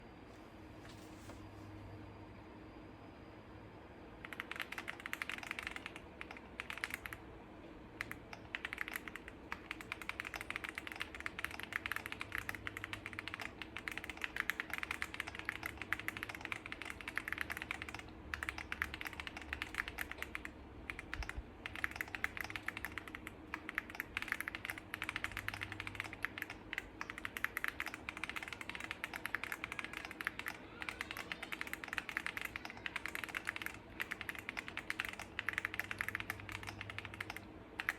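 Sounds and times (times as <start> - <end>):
fast typing on mechanical keyboard: 4.2 - 7.2, 8.0 - 37.9.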